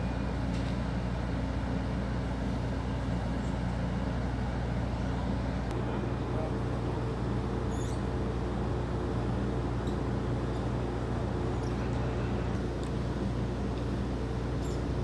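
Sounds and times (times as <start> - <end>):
large engine humming steadily: 0.0 - 15.0.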